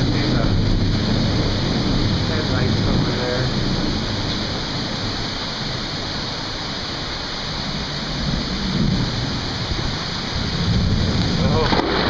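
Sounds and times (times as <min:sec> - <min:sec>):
heavy rain pouring: 0:00.0 - 0:12.0
low thunder rumble: 0:00.0 - 0:12.0.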